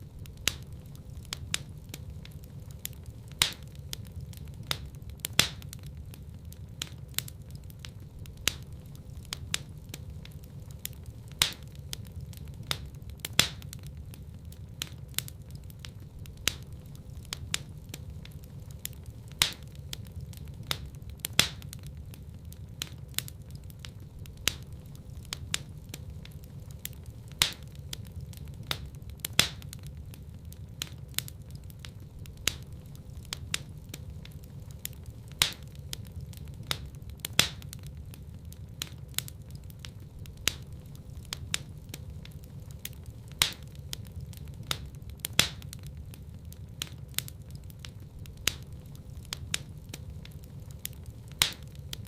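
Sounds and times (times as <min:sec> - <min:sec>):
low rumble of flames: 0:00.0 - 0:52.0
wood fire crackling and popping: 0:00.0 - 0:52.0.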